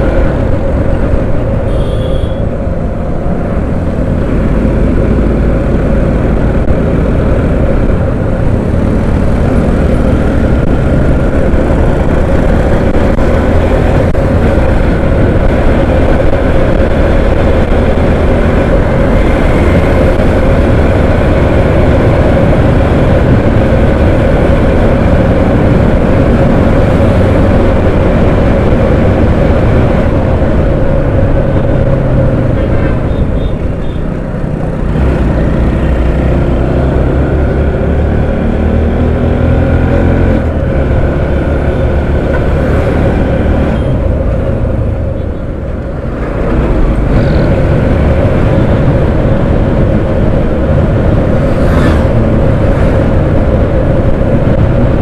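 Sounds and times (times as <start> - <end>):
motorcycle engine running: 0.0 - 55.0
wind rush on microphone: 2.5 - 33.8, 38.0 - 55.0.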